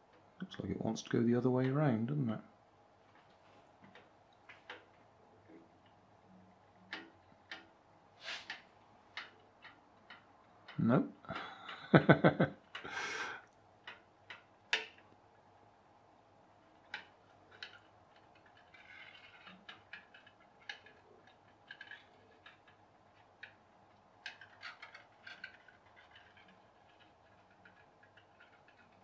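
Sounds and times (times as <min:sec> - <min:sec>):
soft hiss: 0:00.0 - 0:29.0.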